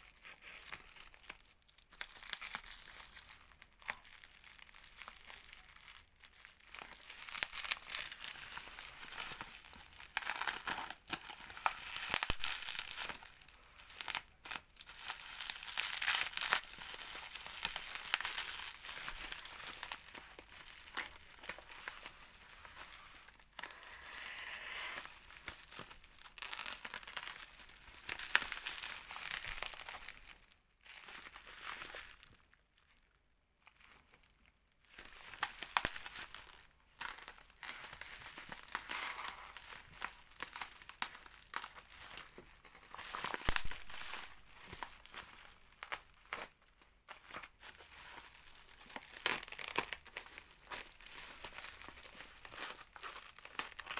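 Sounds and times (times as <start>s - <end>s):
packaging crinkling and tearing: 0.0s - 33.0s, 33.6s - 53.9s.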